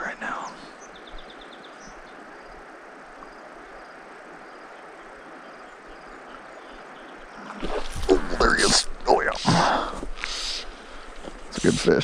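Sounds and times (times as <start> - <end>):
soft steady hiss: 0.0 - 12.0.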